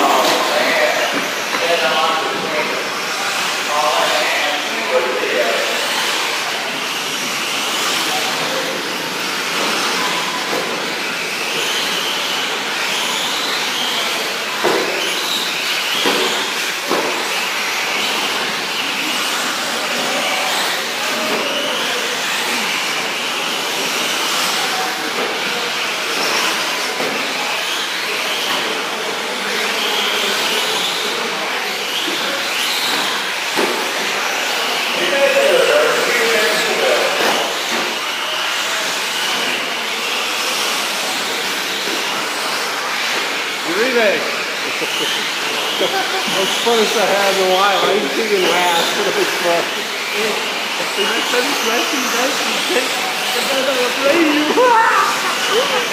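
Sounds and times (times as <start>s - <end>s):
electric motors whining: 0.0s - 55.9s.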